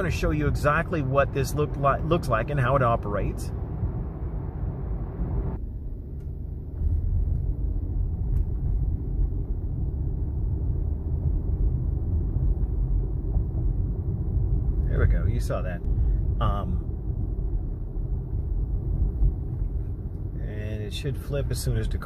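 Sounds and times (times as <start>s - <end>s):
road and tyre noise in car: 0.0s - 22.0s.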